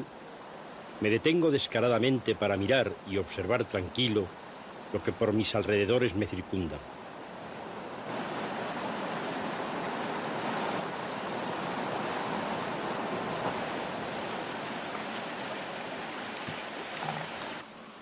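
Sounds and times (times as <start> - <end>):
river water rushing over weir: 0.0 - 18.0.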